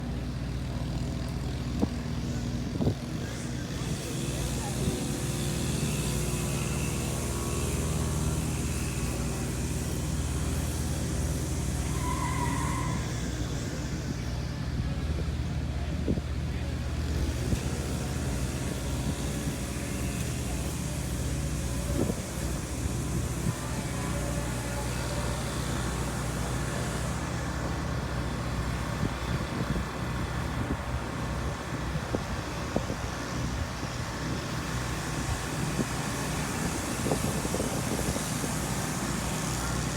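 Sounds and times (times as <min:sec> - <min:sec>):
engines and road traffic rumble: 0:00.0 - 0:39.9.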